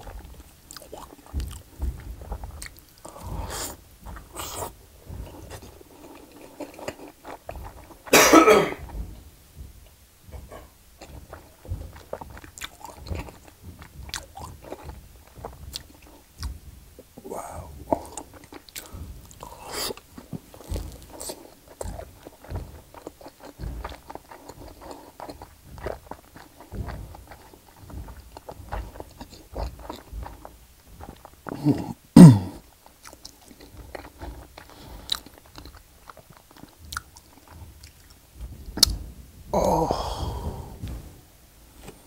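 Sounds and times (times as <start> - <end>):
person chewing with mouth clicks: 0.0 - 8.2, 9.8 - 39.0.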